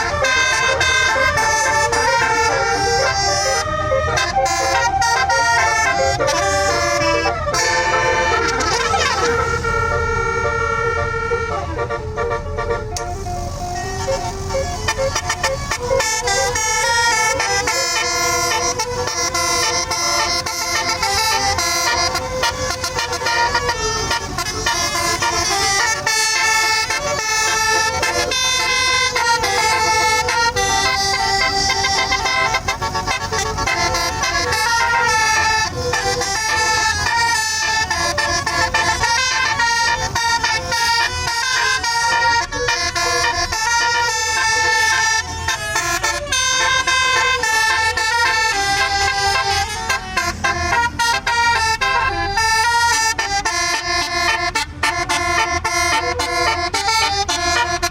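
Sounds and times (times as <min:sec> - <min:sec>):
musical bus horn playing tune: 0:00.0 - 0:57.9.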